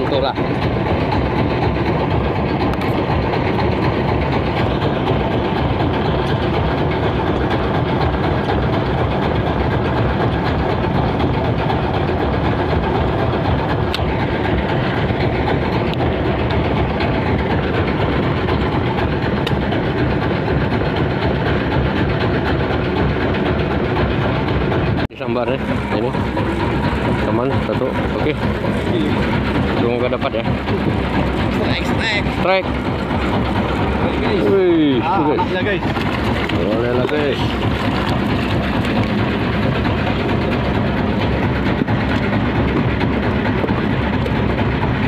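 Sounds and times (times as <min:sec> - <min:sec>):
boat engine running: 0:00.0 - 0:45.0.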